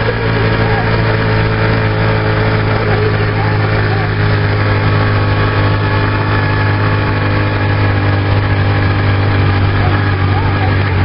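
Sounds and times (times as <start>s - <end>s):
motorcycle engine humming: 0.0s - 11.0s.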